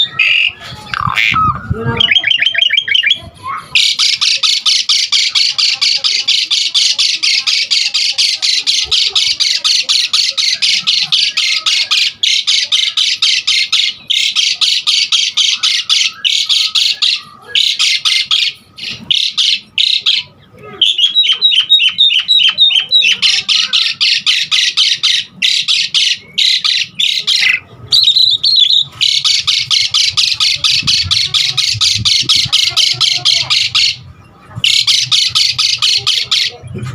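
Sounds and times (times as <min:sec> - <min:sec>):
starling chattering song: 0:00.0 - 0:36.9.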